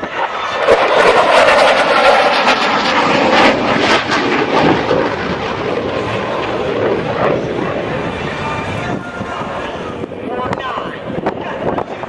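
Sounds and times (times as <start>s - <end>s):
aircraft flying past: 0.0s - 12.0s.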